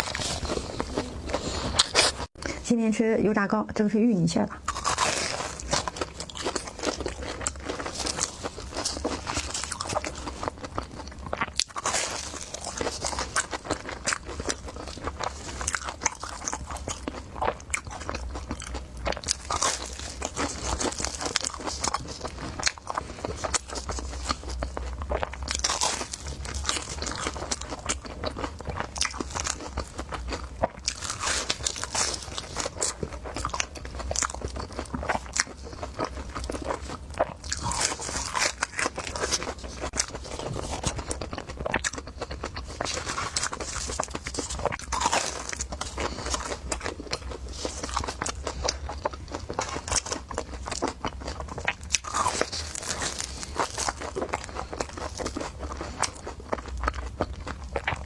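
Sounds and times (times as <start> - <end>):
person chewing crunchy food: 0.0 - 2.6, 4.5 - 58.0.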